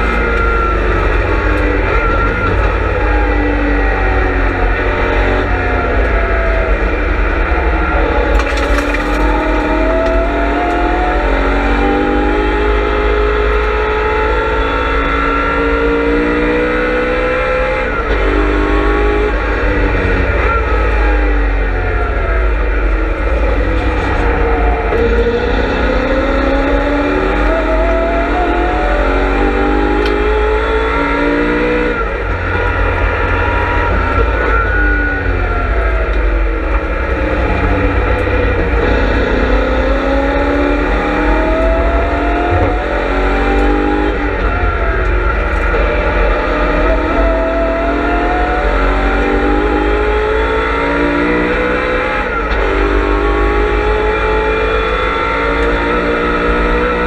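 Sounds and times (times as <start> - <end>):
race car engine at speed: 0.0 - 57.0.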